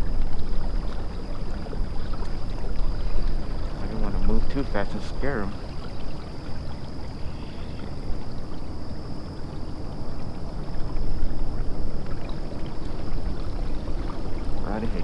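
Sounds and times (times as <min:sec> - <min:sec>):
kayak rushing through water: 0:00.0 - 0:15.0.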